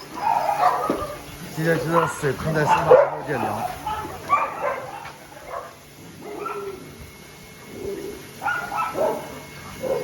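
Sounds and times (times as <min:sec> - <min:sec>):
dogs barking and whining: 0:00.0 - 0:10.0.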